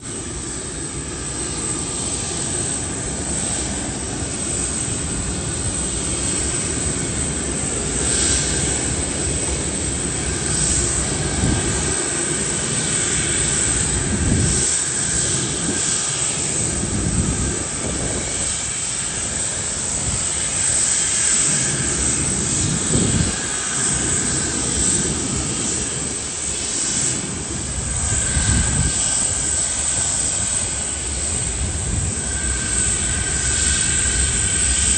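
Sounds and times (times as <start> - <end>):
faint high engine whine: 0.0 - 34.9
jet engines rumbling: 0.0 - 34.9.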